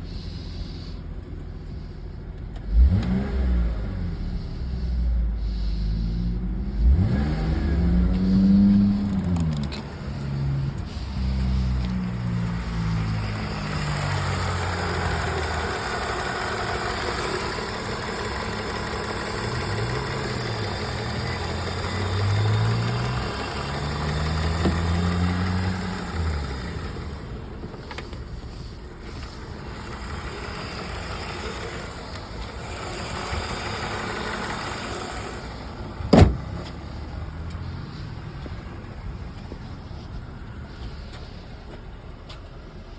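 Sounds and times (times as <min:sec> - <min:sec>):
car engine revving: 0:02.6 - 0:41.8.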